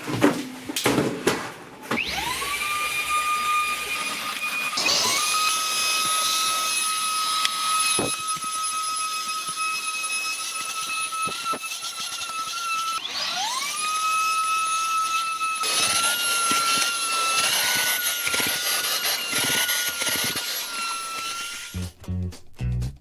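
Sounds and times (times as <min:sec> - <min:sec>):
handheld vacuum motor whine: 0:01.9 - 0:21.8.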